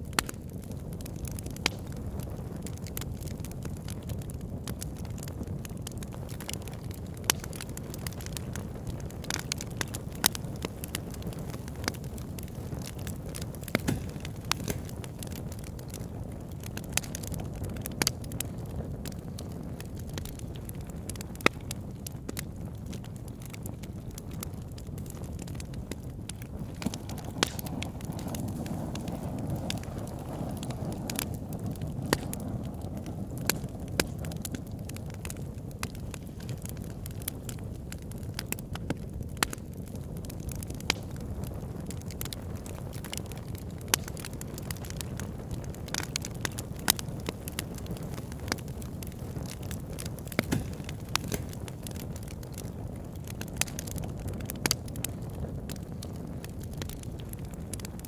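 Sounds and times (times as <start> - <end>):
crackles and pops: 0.0 - 58.0.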